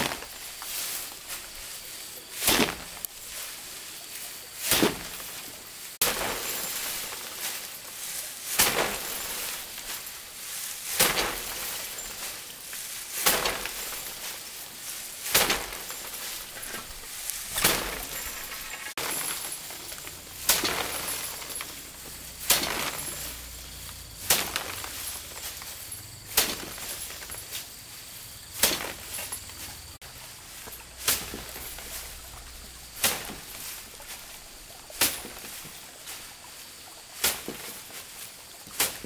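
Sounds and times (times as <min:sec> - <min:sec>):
rice stalks whacking threshing frame: 0:00.0 - 0:39.0
rustle of stalks and scattering grain: 0:00.0 - 0:39.0.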